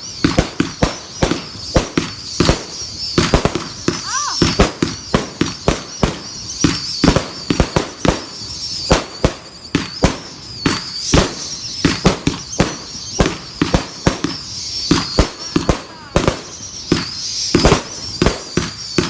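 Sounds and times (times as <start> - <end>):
firework bangs: 0.0 - 19.0
high wavering firework whistle: 0.0 - 19.0.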